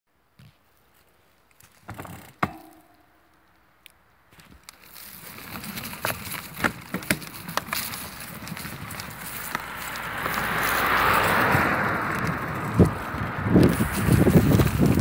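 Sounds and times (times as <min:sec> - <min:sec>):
tyres crunching over forest ground: 0:00.3 - 0:15.0
bicycle rattling over bumps: 0:01.6 - 0:03.4, 0:04.3 - 0:15.0.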